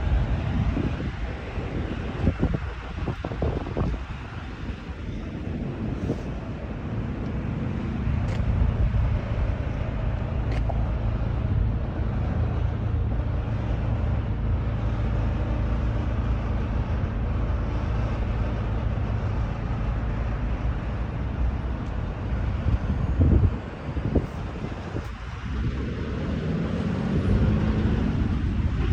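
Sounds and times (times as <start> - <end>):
truck diesel engine droning: 0.0 - 28.9.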